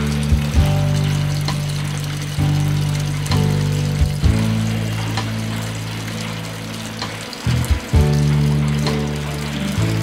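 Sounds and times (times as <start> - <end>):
low chord background music: 0.0 - 10.0
rain falling: 0.0 - 10.0.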